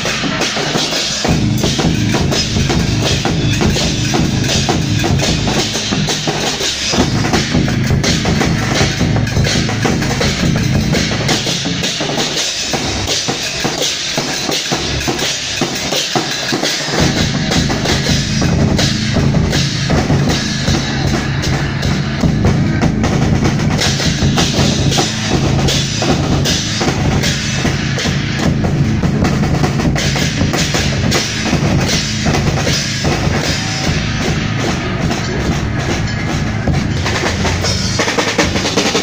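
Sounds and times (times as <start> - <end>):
cymbals clashing: 0.0 - 39.0
deep barrel drum beats: 0.0 - 39.0
drums beaten in fast rhythm: 0.0 - 39.0.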